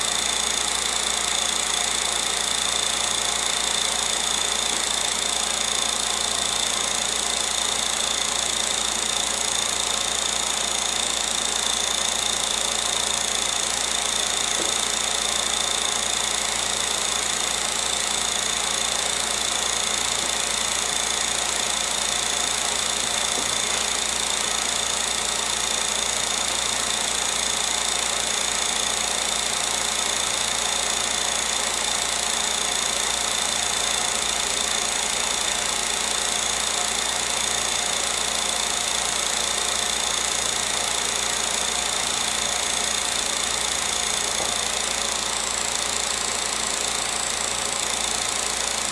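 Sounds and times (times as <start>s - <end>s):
film projector whirring: 0.0s - 48.9s.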